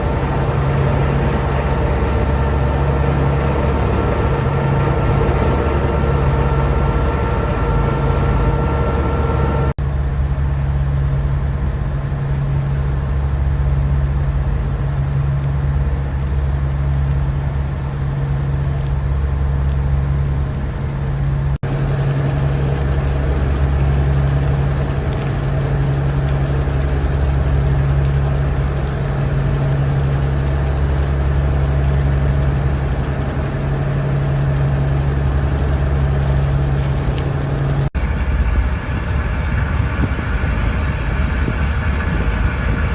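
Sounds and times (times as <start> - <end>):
ship engines droning: 0.0 - 42.9.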